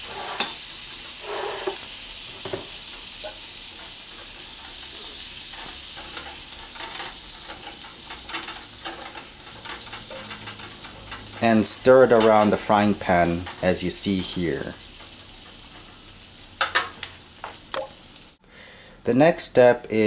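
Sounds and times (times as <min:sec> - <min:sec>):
wooden spoon scraping a pan: 0:00.0 - 0:17.6
butter sizzling in frying pan: 0:00.0 - 0:18.4.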